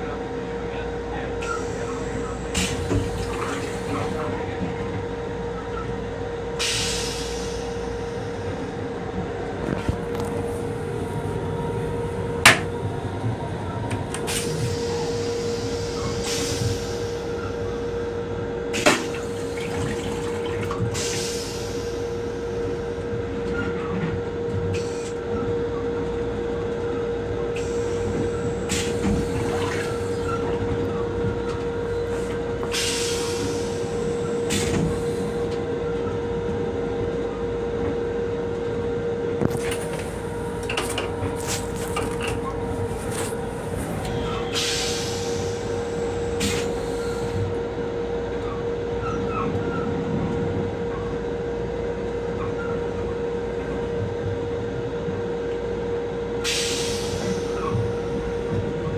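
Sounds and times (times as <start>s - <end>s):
railcar rumble and hum: 0.0s - 58.9s.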